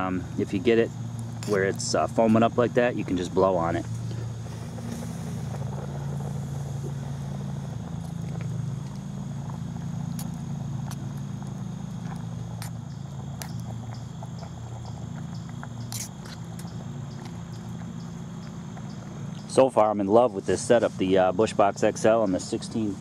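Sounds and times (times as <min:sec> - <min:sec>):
pot boiling over fire: 0:00.0 - 0:23.0.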